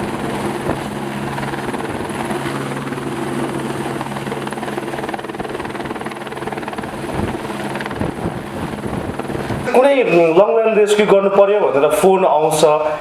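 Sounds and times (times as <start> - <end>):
helicopter running: 0.0 - 12.8.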